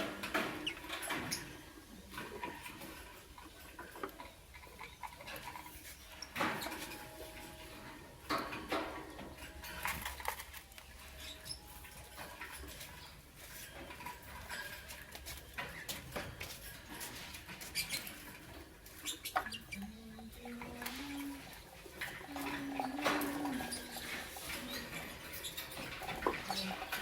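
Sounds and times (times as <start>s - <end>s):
lovebirds chirping and chattering: 0.0s - 27.0s.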